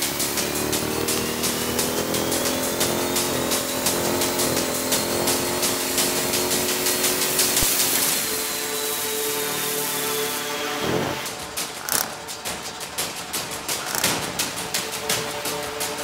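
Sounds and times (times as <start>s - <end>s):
car engine at high revs: 0.0s - 9.9s, 10.8s - 14.4s.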